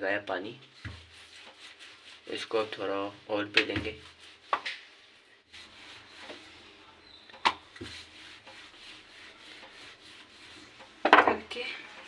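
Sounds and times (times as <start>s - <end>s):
rolling pin rubbing dough: 0.6s - 12.0s.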